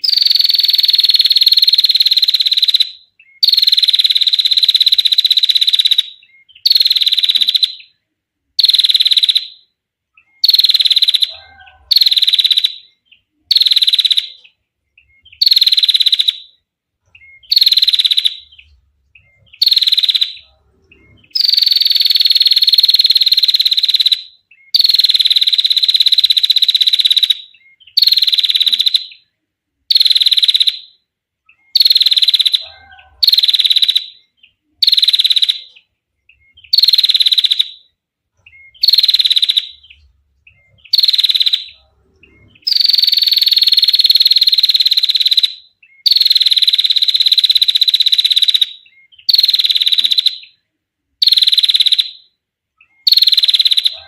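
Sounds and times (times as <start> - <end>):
bird giving rapid clear trill: 0.0 - 8.0, 8.6 - 29.3, 29.9 - 50.6, 51.2 - 54.0.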